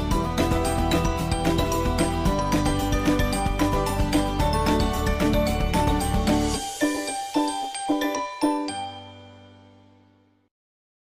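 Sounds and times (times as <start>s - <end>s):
instrumental background music: 0.0s - 10.5s.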